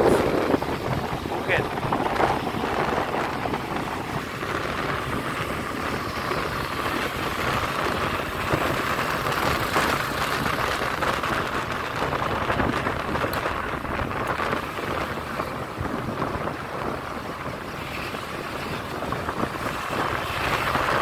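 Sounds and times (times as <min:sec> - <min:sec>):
wind rushing past: 0:00.0 - 0:21.0.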